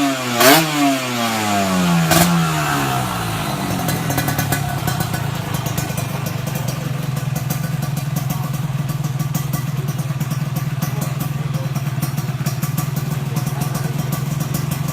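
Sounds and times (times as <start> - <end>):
motorcycle engine idling: 1.3 - 14.9.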